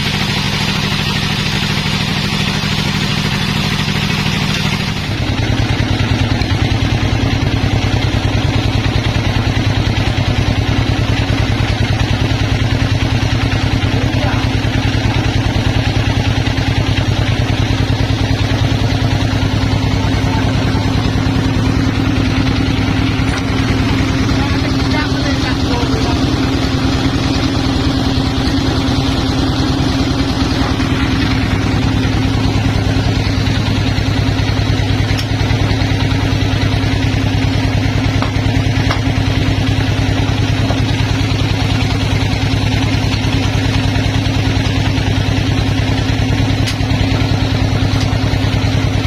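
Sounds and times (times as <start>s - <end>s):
sawmill engine pulsing: 0.0s - 49.0s.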